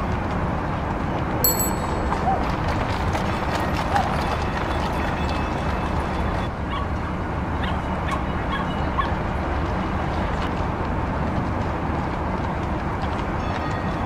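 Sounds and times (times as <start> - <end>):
street noise rumble: 0.0 - 14.0.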